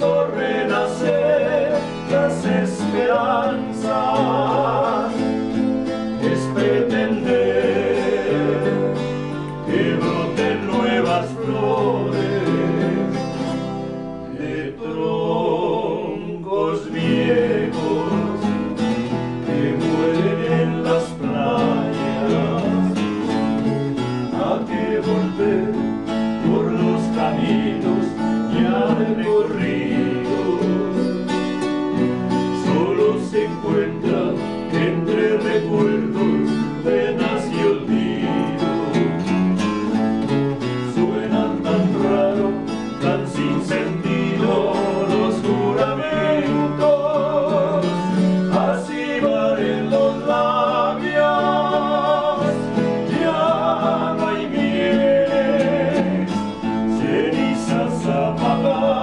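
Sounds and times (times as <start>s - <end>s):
acoustic guitars strummed and picked: 0.0s - 59.0s
two men singing in duet: 0.0s - 59.0s.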